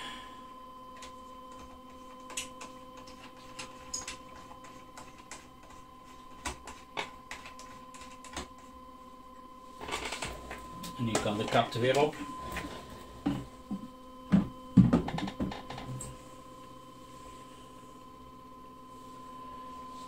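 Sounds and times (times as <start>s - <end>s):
steady hum: 0.0s - 20.0s
thin machine whine: 0.0s - 20.0s.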